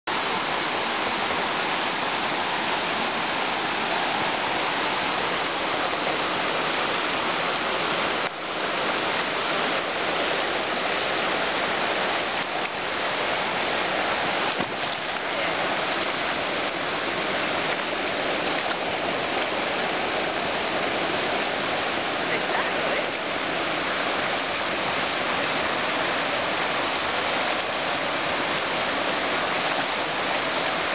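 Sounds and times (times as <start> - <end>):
water flowing over rocks: 0.1 - 30.9.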